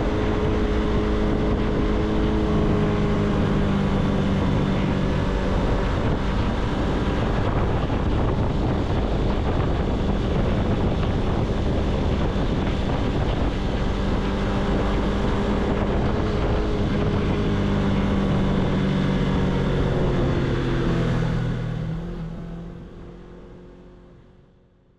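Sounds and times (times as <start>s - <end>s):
motorcycle engine cruising: 0.0s - 24.8s.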